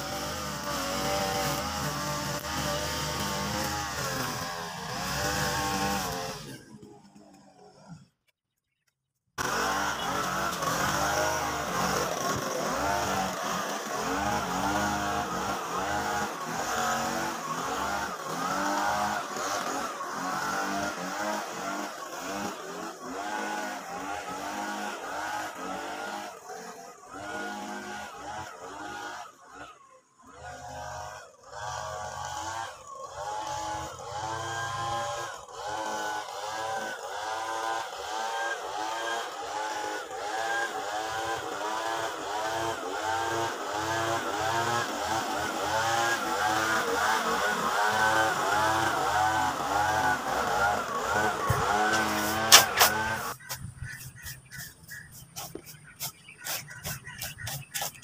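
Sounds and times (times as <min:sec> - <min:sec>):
brush cutter engine revving: 0:00.0 - 0:08.3, 0:09.4 - 0:58.0.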